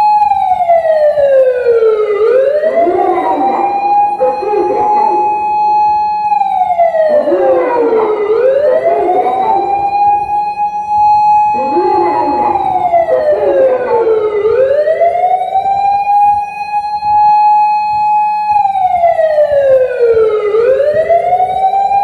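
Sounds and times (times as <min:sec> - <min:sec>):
electronic siren wailing: 0:00.0 - 0:22.0.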